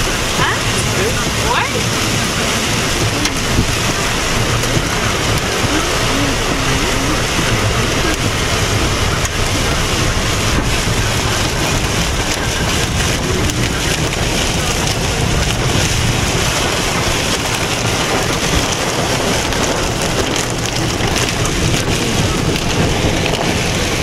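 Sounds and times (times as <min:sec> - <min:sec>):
heavy rain on car roof: 0:00.0 - 0:24.0.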